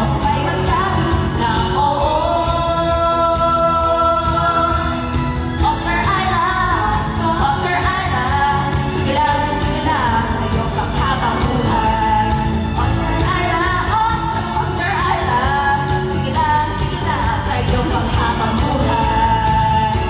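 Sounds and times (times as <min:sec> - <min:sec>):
amplified backing music: 0:00.0 - 0:20.0
people singing into microphones: 0:00.0 - 0:20.0.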